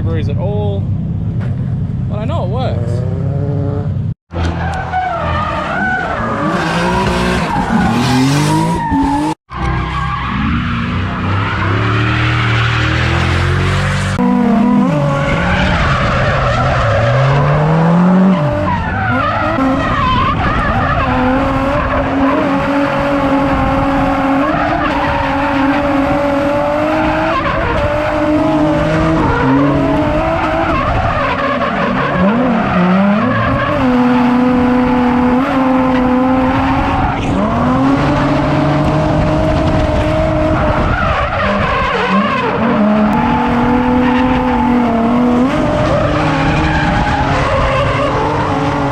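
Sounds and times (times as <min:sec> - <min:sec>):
tyres skidding: 0:00.0 - 0:48.9
car engine revving: 0:00.9 - 0:48.9.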